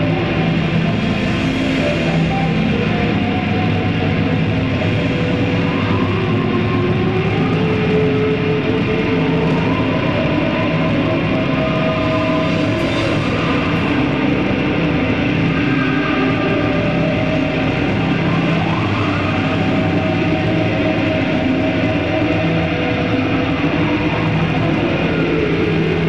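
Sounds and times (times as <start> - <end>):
psychedelic rock band drone: 0.0 - 26.0.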